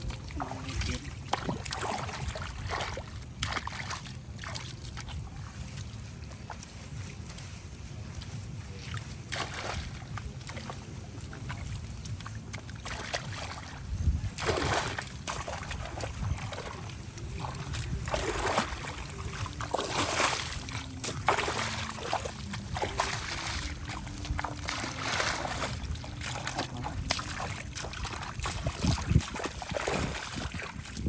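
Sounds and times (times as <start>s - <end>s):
water splashing and sloshing: 0.0s - 31.0s.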